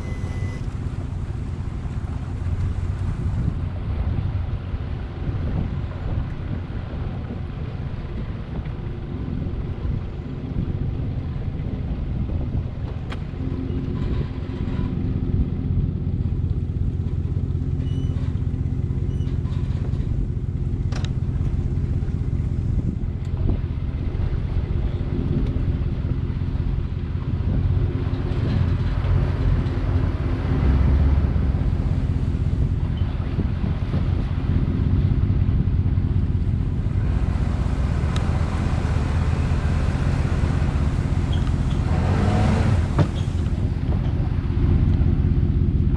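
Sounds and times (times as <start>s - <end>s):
boat engine humming: 0.0s - 45.9s.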